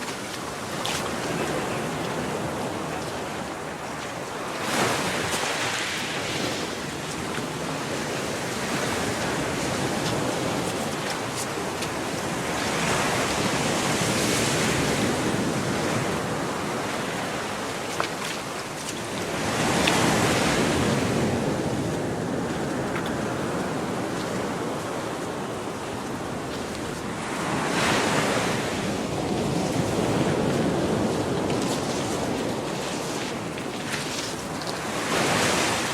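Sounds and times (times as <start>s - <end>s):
small waves breaking on beach: 0.0s - 35.9s
wind on microphone: 0.0s - 35.9s.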